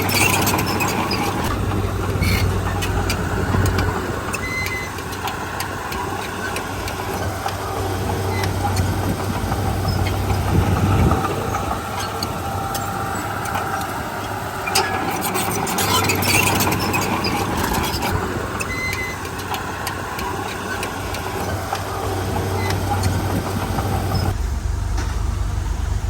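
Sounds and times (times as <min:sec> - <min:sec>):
sharp clicks and rattles: 0:00.0 - 0:25.4
diesel machinery running: 0:00.0 - 0:26.0.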